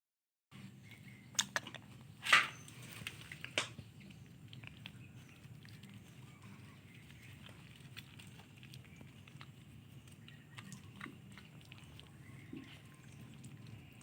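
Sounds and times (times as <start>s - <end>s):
low steady hum: 0.6s - 14.0s.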